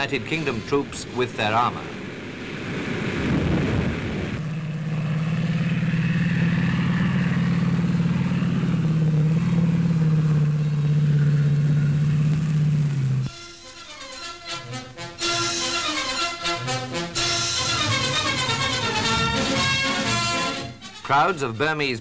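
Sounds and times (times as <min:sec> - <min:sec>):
tank engine running: 0:00.0 - 0:13.3, 0:15.1 - 0:21.8.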